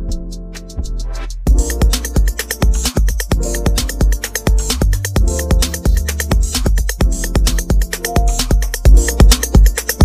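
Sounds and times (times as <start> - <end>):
drum-machine beat with deep kick: 0.0 - 10.0
electronic house music: 0.0 - 10.0
synth bass and chords: 0.0 - 10.0.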